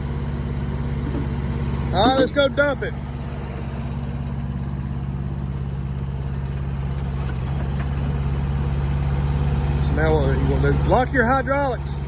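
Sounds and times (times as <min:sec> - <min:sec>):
small diesel engine idling: 0:00.0 - 0:12.0.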